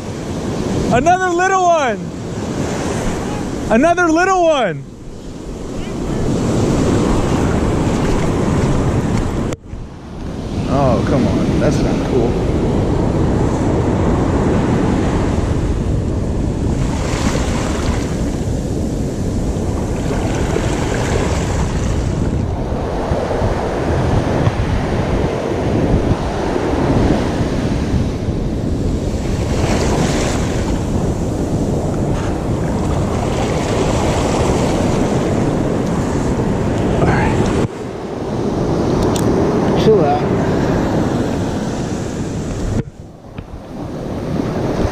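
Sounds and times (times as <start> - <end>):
surf breaking in shallow water: 0.0 - 44.9
wind noise on microphone: 0.0 - 44.9.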